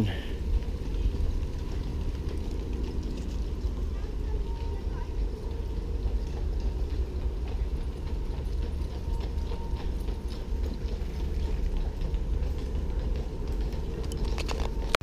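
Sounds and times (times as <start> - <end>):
footsteps on paved path: 0.0 - 15.0.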